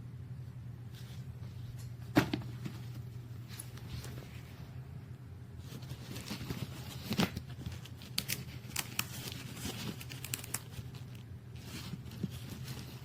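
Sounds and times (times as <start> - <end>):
steady low hum: 0.0 - 13.0
rustling and crinkling handling: 0.8 - 4.8, 5.6 - 13.0.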